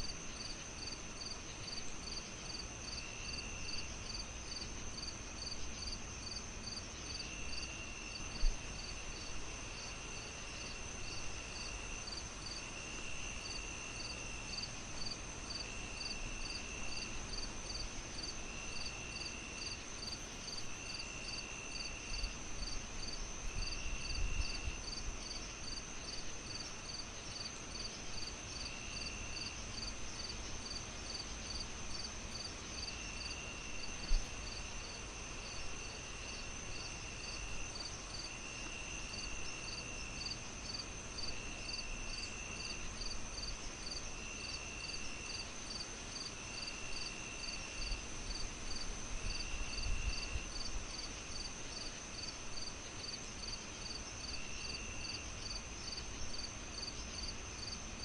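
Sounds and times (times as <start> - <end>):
crickets chirping: 0.0 - 58.0
lower insect trill: 0.2 - 58.0
high insect trill: 8.8 - 57.8.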